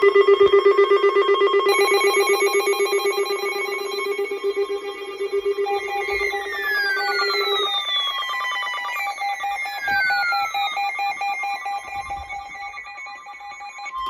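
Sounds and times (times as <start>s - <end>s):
falling electronic tone: 0.0s - 14.0s
fast-pulsing alarm beep: 0.0s - 14.0s
steady alarm tones: 0.0s - 14.0s.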